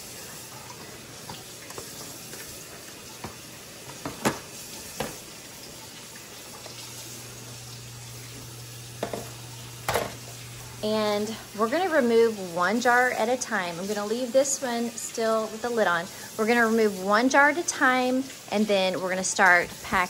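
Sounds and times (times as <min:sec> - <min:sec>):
hot water and steam hissing: 0:00.0 - 0:20.0.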